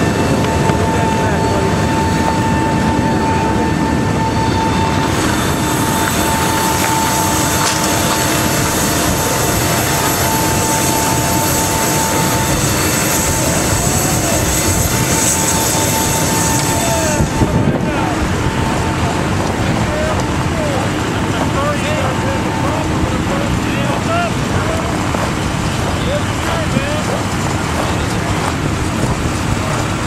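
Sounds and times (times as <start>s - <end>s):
high-pitched engine whine: 0.0s - 30.0s
jet engines roaring: 0.0s - 30.0s.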